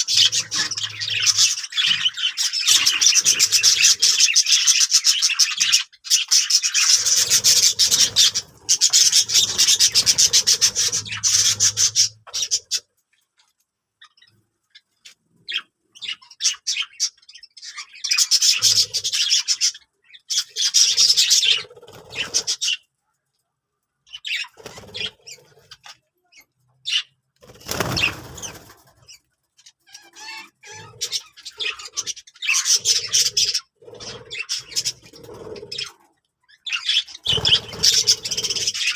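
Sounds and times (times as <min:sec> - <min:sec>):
budgerigars chattering and warbling: 0:00.0 - 0:12.9, 0:14.0 - 0:22.9, 0:24.1 - 0:38.9.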